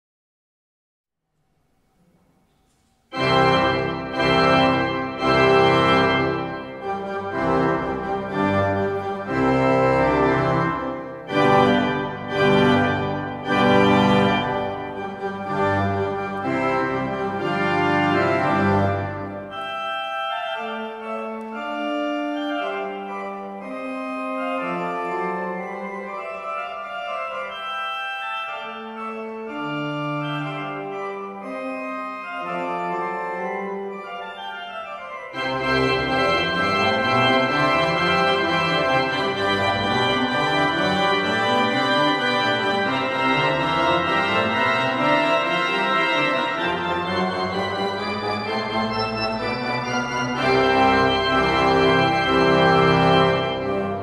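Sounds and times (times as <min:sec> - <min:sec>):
pipe organ playing: 0:03.1 - 0:54.0.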